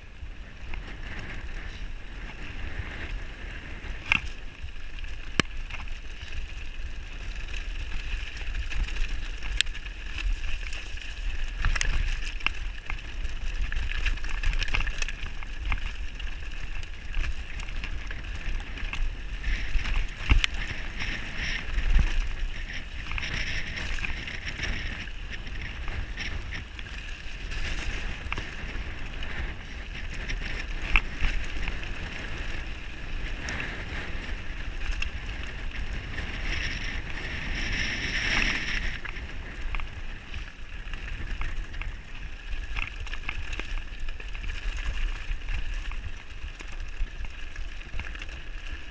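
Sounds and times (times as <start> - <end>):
wind rumble on microphone: 0.0 - 48.9
tyres crunching over stones: 3.8 - 48.9.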